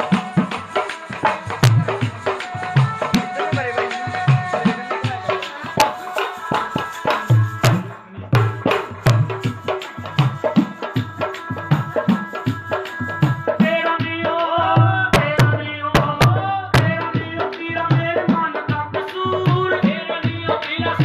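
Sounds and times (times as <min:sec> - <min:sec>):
hand drum rhythm: 0:00.0 - 0:21.0
person singing: 0:00.0 - 0:21.0.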